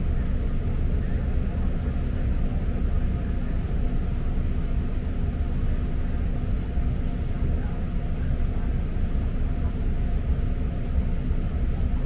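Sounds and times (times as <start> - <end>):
train car rumble and hum: 0.0 - 12.0.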